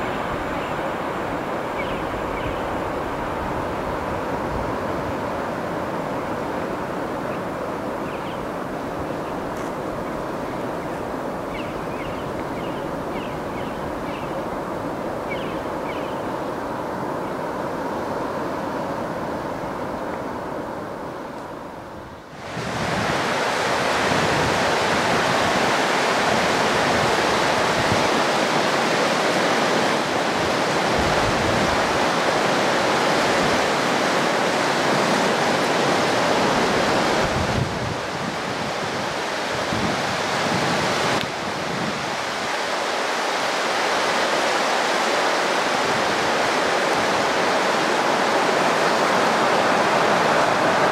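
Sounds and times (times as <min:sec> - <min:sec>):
river rapids rushing: 0:00.0 - 0:50.9.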